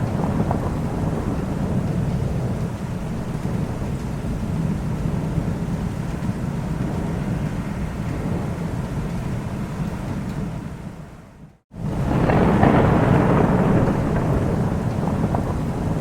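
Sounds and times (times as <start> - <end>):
deep thunder rumble: 0.0 - 16.0
steady rain hiss: 0.0 - 16.0.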